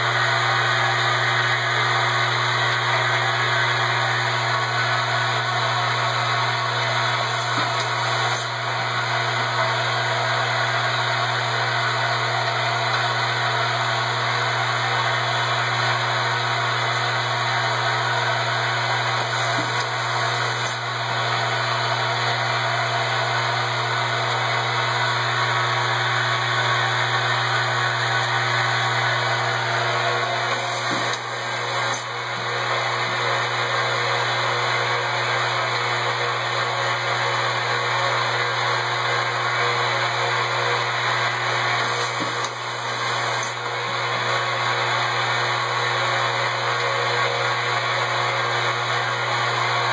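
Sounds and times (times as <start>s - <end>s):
machine whirring: 0.0s - 35.7s, 39.0s - 46.0s.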